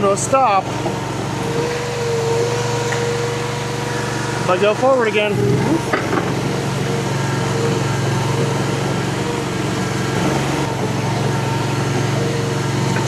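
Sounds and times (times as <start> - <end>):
gasoline engine running: 0.0 - 13.0.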